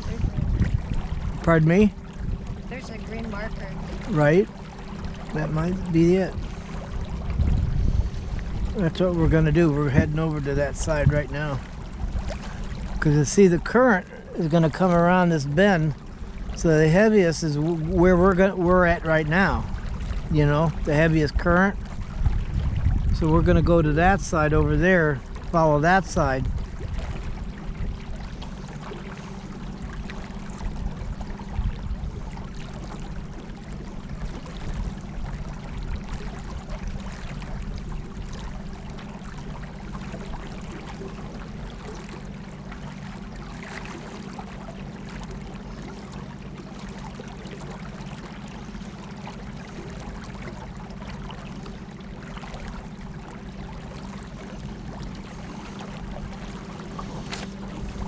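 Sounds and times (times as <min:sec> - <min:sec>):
electric boat motor humming: 0:00.0 - 0:58.0
water rushing along hull: 0:00.0 - 0:58.0.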